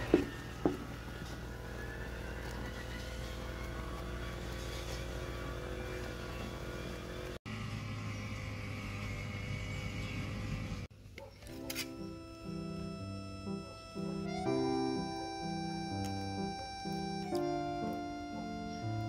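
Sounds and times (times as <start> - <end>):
motor hum with low drone: 0.0 - 10.9, 11.9 - 19.0.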